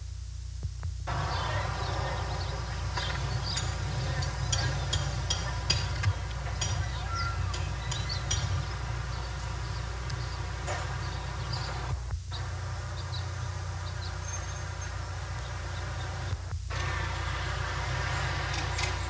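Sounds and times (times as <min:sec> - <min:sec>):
low buzzing hum: 0:00.0 - 0:19.0.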